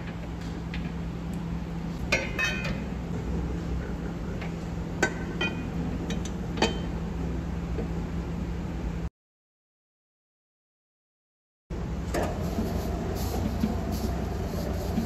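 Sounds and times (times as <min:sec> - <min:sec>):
steady low hum: 0:00.0 - 0:09.1, 0:11.7 - 0:15.0.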